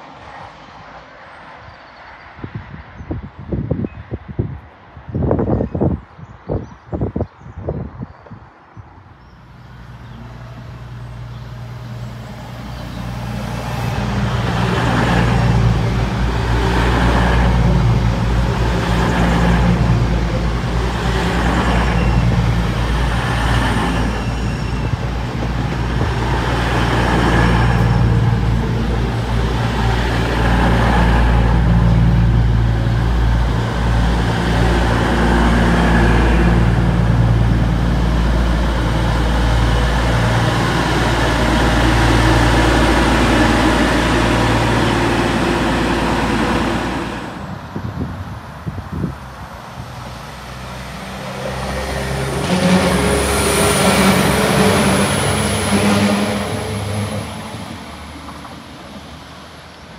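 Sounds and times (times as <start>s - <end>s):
diesel train engine drone: 9.4s - 59.9s.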